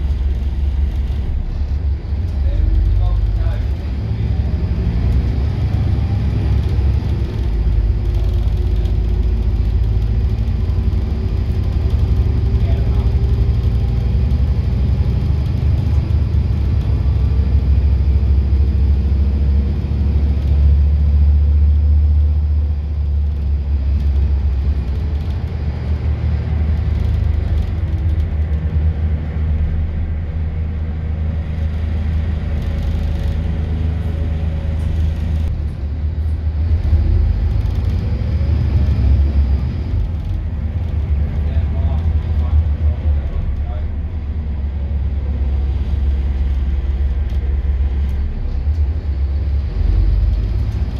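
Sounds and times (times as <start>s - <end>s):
bus diesel engine rumbling: 0.0s - 50.9s.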